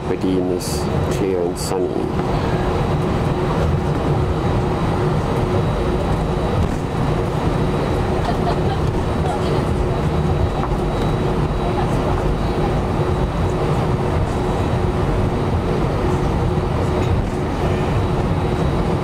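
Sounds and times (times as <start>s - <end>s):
constant hum tone: 0.0s - 19.0s
jet engine and airframe rumble: 0.0s - 19.0s.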